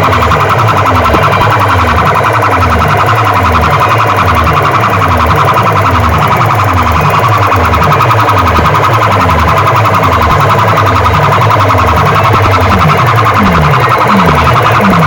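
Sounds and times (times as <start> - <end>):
falling bass sweep: 0.0 - 15.0
loud distorted electronic music: 0.0 - 15.0
steady shrill electronic tone: 0.0 - 15.0.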